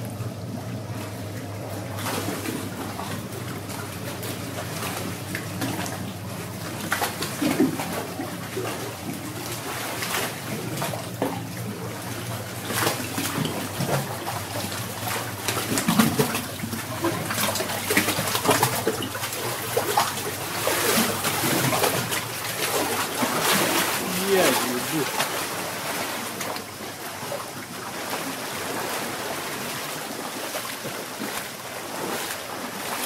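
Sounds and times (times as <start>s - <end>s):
boat engine humming: 0.0s - 33.0s
water lapping against boat hull: 0.0s - 33.0s.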